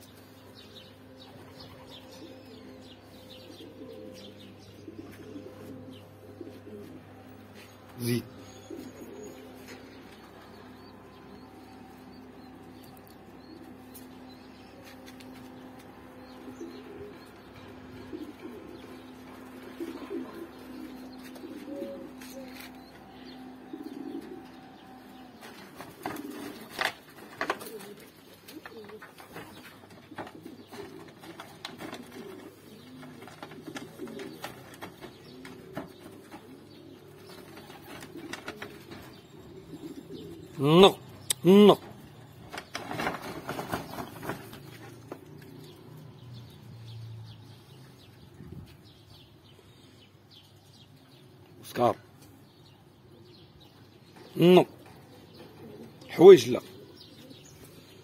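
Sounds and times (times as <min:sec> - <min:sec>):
pigeons cooing: 0:00.0 - 0:58.0.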